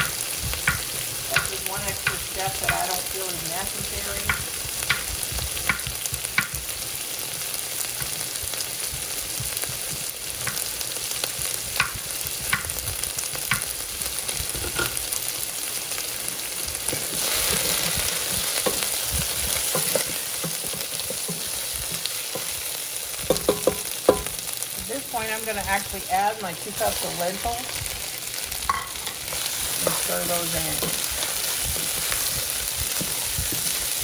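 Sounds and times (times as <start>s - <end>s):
vegetables sizzling in a pot: 0.0s - 34.0s.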